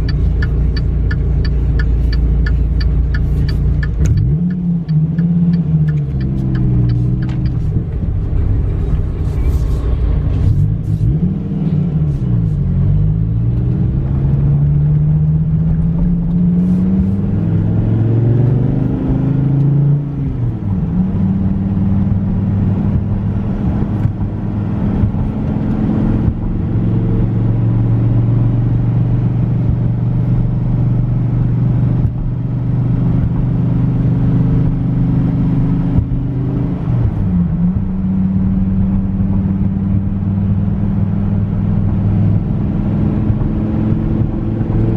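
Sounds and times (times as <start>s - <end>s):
car engine while driving: 0.0s - 44.9s.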